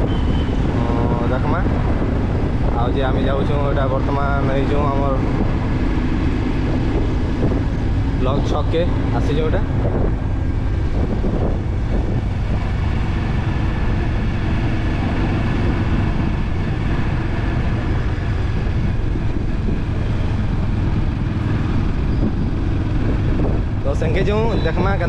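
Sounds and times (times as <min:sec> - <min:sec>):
motorbike engine rumble: 0:00.0 - 0:25.0.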